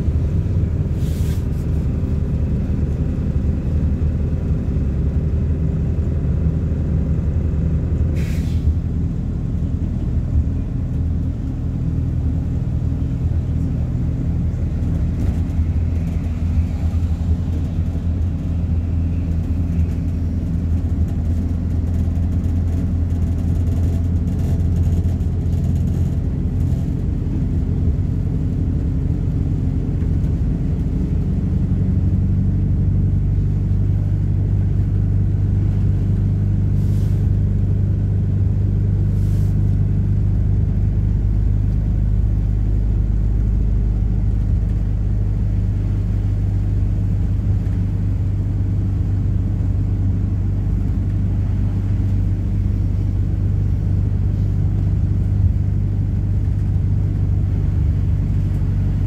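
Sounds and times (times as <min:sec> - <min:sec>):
bus diesel engine running: 0:00.0 - 0:59.0
road rumble: 0:00.0 - 0:59.0.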